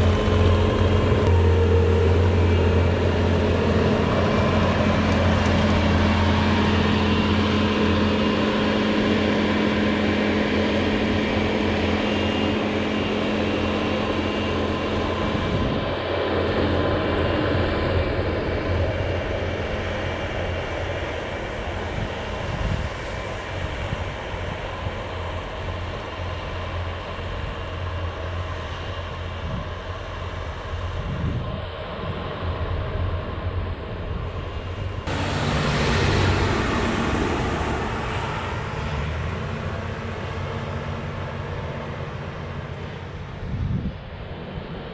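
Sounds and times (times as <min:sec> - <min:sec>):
low engine hum: 0:00.0 - 0:44.9.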